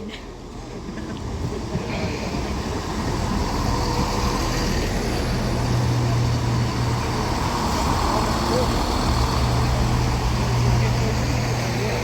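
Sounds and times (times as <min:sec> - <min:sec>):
train engine hum: 0:00.0 - 0:12.0.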